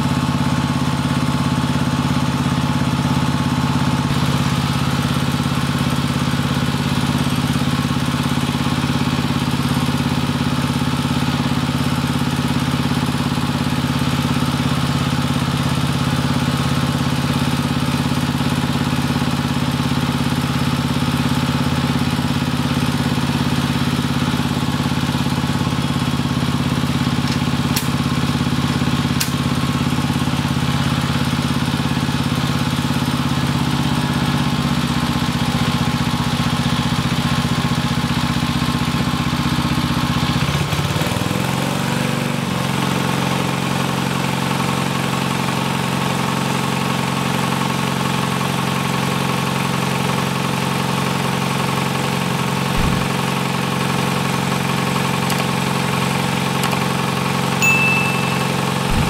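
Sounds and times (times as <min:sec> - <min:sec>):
pump running with loud drone: 0:00.0 - 0:57.7.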